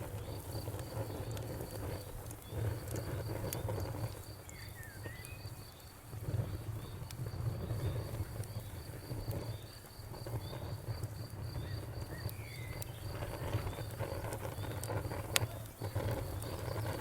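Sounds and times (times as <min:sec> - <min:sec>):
wood fire crackling: 0:00.0 - 0:17.0
cricket chirping: 0:00.1 - 0:17.0.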